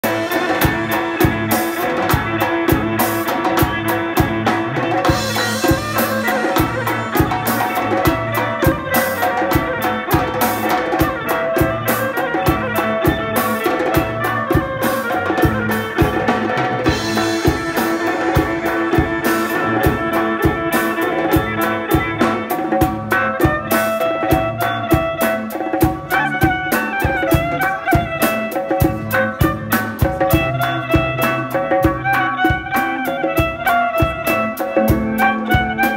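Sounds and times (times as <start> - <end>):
drums beating steady rhythm: 0.0 - 35.9
violin melody: 0.0 - 35.9.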